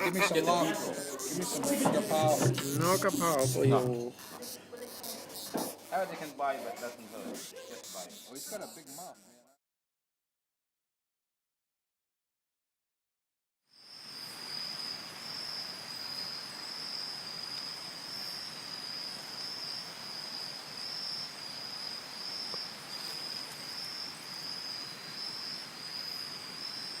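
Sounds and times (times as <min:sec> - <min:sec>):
crickets trilling: 0:00.0 - 0:09.3, 0:13.7 - 0:27.0.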